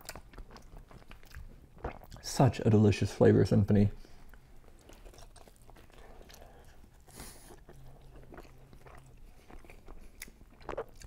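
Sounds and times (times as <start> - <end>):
person chewing pizza: 0.0 - 2.2, 4.2 - 11.0.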